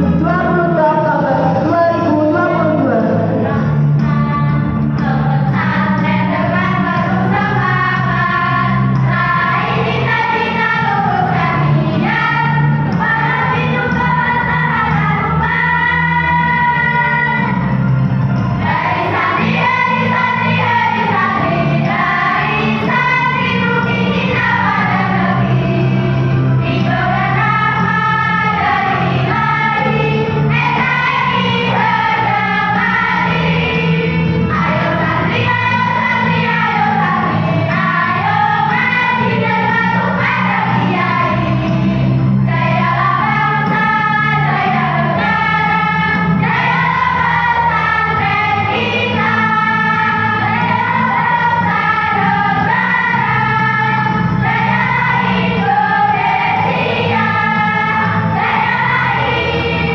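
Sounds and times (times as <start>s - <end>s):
choir singing: 1.3s - 59.9s.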